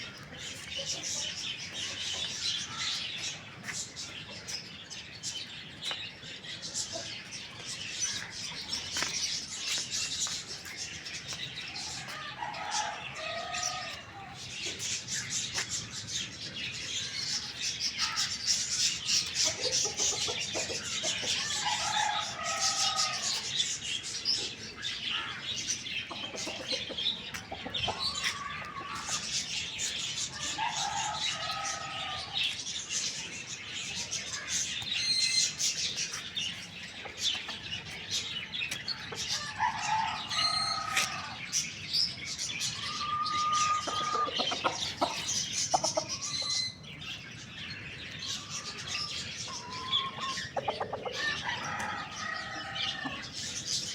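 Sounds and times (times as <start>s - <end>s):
chickens calling: 0.0s - 53.9s
small birds chirping: 0.0s - 53.9s.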